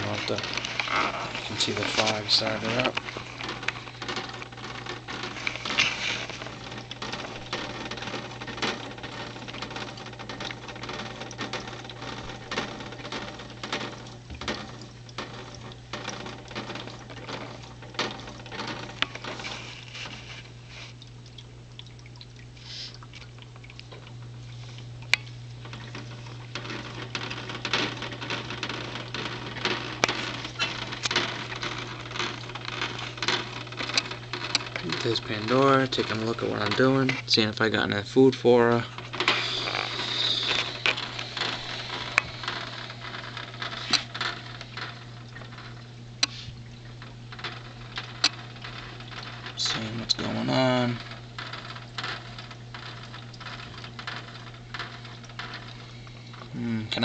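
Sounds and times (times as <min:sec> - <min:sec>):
steady low hum: 0:00.0 - 0:57.0
water drips and plinks: 0:00.0 - 0:57.0.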